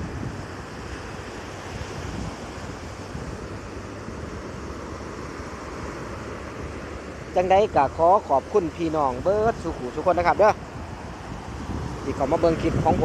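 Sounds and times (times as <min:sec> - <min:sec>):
waves breaking on a beach: 0:00.0 - 0:13.0
wind buffeting the microphone: 0:00.0 - 0:13.0.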